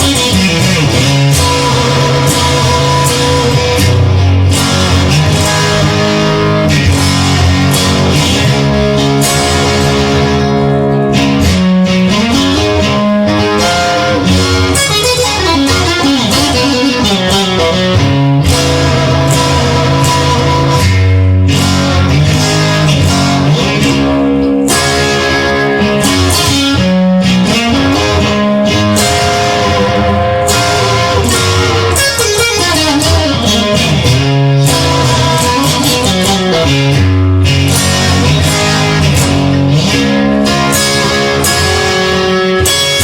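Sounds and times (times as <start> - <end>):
guitar-led instrumental music: 0.0 - 43.0.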